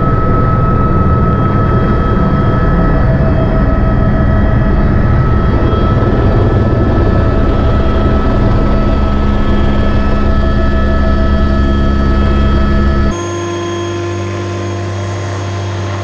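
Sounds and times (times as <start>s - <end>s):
helicopter engine and rotor: 0.0s - 16.0s
whining tones: 0.0s - 16.0s.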